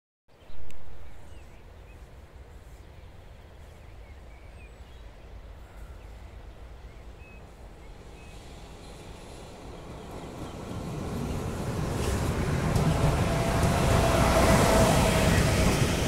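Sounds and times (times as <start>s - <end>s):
distant freight train rumble: 1.0s - 16.0s.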